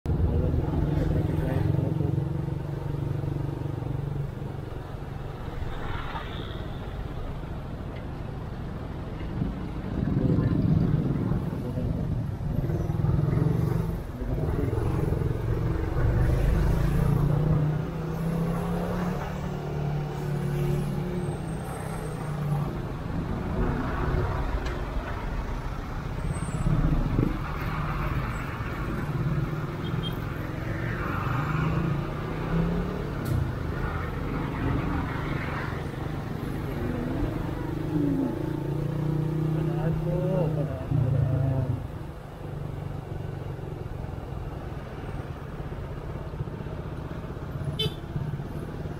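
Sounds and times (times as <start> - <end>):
trucks and bus engines: 0.0 - 48.9.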